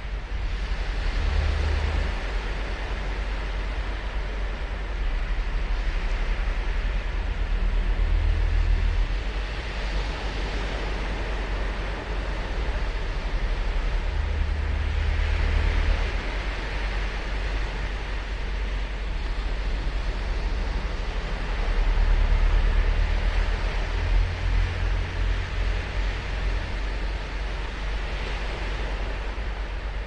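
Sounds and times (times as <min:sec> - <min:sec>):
deep rumble: 0:00.0 - 0:30.0
waves breaking on beach: 0:00.0 - 0:30.0.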